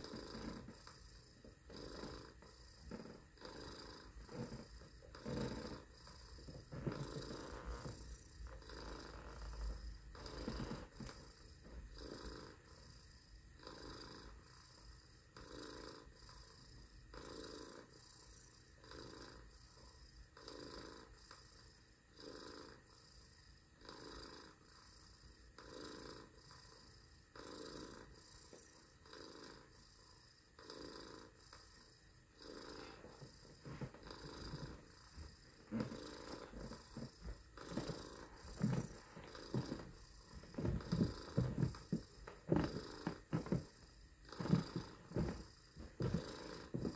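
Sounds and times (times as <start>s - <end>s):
person purring like a cat: 0.0s - 21.4s, 22.1s - 23.1s, 25.6s - 46.9s.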